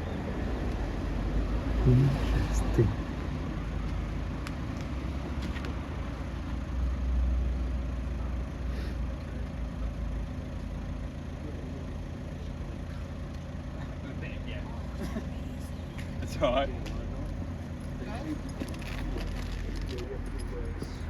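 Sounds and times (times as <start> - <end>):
engine idling: 1.8 - 21.0.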